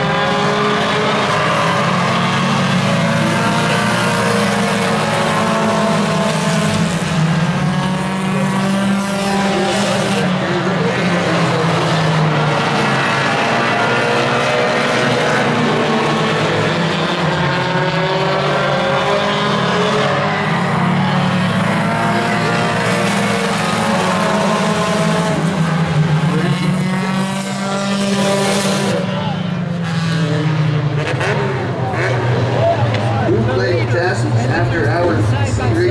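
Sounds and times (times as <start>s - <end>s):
race car engines passing: 0.0s - 35.9s.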